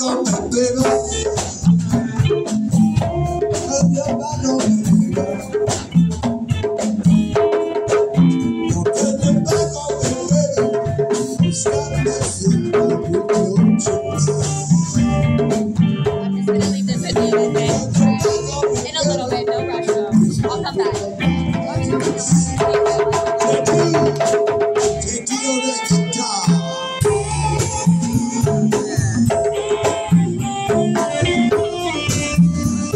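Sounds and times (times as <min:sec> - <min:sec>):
conga drum hits: 0:00.0 - 0:32.9
live rock band playing: 0:00.0 - 0:32.9.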